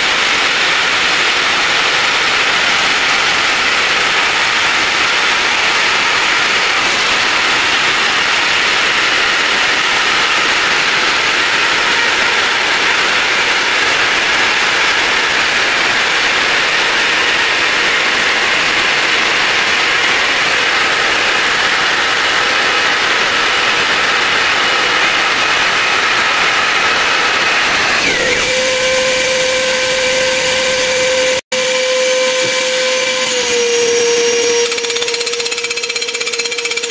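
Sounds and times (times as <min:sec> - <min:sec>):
core drill boring through wall: 0:00.0 - 0:36.9
vacuum dust extractor hum: 0:00.0 - 0:36.9.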